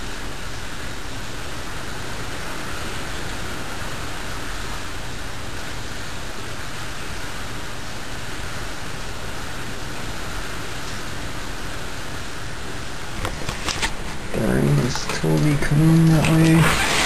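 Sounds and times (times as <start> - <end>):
storm wind and rain: 0.0 - 17.0.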